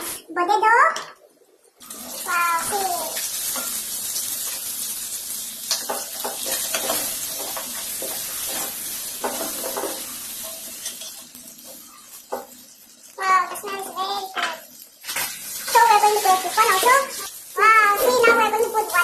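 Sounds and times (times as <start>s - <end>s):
vegetables sizzling in hot oil: 1.8s - 19.0s.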